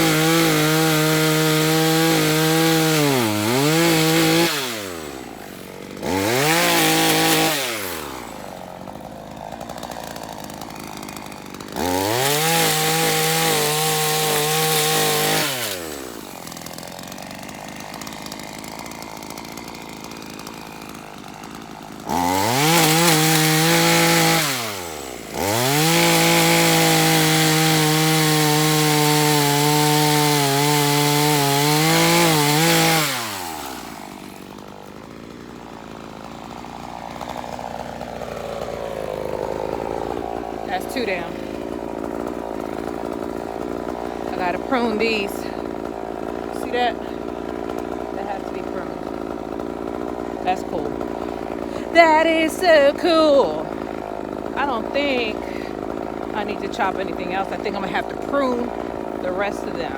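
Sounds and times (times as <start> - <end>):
chainsaw revving and cutting wood: 0.0 - 59.9.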